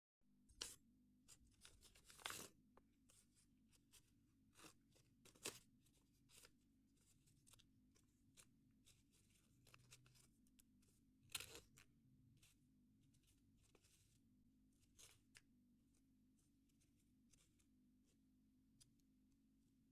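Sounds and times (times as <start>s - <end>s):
paper crinkling and rustling: 0.6s - 18.9s.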